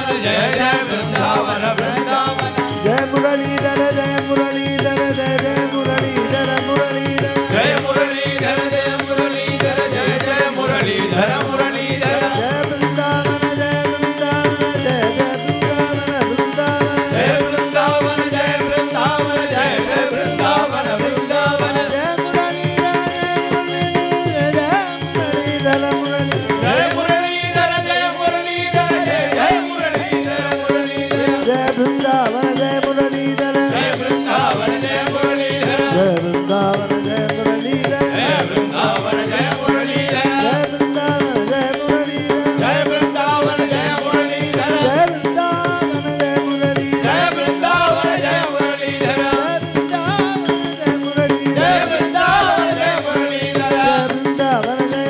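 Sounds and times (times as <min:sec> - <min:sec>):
tabla: 0:00.0 - 0:55.0.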